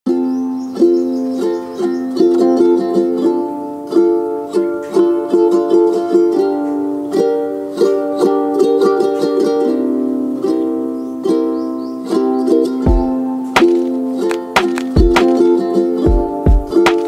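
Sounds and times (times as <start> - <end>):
plucked-string music: 0.1 - 17.0.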